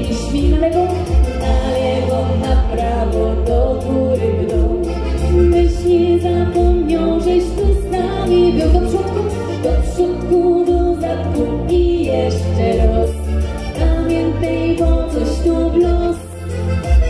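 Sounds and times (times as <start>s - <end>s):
backing music with steady beat: 0.0s - 17.0s
two women singing pop song: 0.0s - 17.0s.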